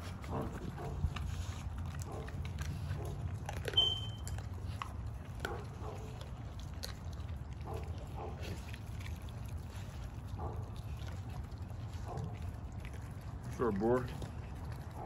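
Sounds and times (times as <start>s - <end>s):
dog chewing with wet crunches: 0.0s - 15.0s.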